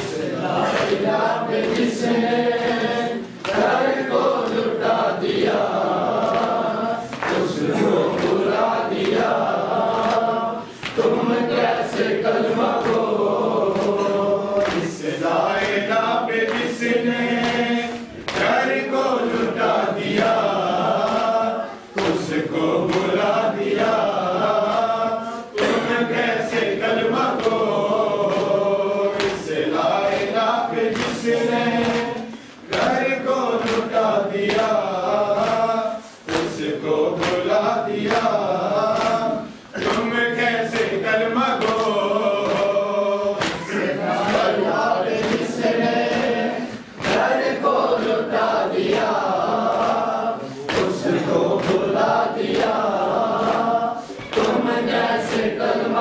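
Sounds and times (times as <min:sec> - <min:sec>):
men chanting together: 0:00.0 - 0:56.0
hands slapping on chests: 0:05.4 - 0:21.4, 0:22.0 - 0:25.0, 0:25.6 - 0:46.4, 0:47.0 - 0:50.1, 0:50.7 - 0:55.6.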